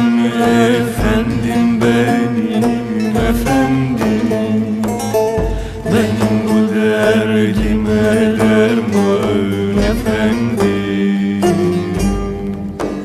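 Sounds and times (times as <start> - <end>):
person singing folk song: 0.0 - 13.0
plucked strings: 0.0 - 13.0.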